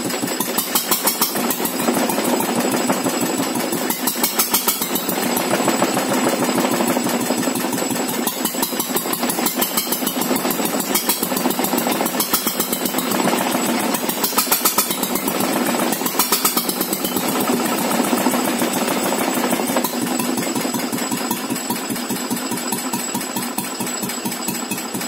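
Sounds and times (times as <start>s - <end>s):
stationary engine running: 0.0s - 25.0s.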